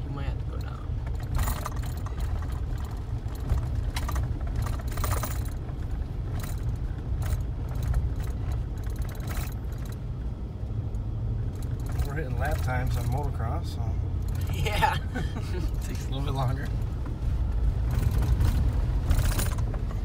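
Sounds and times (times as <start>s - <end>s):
truck engine and tyres rumbling: 0.0s - 20.0s
rattles and knocks over bumps: 0.3s - 20.0s.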